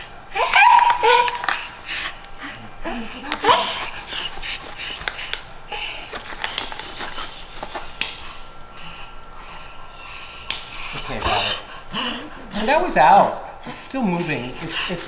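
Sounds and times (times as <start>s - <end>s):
dog panting: 1.6s - 15.0s.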